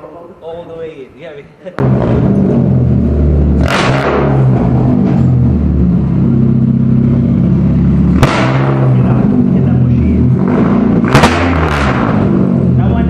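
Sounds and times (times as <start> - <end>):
bass-heavy music: 1.7 - 13.0.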